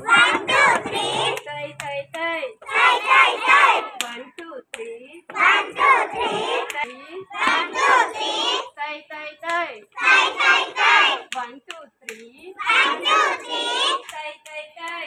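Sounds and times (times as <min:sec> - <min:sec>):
girls chanting in unison: 0:00.0 - 0:04.4, 0:05.3 - 0:11.6, 0:12.5 - 0:15.0.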